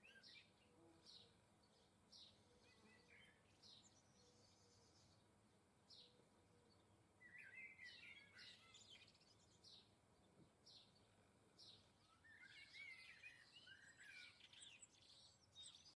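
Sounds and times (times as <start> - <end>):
songbirds twittering: 0.0 - 15.9.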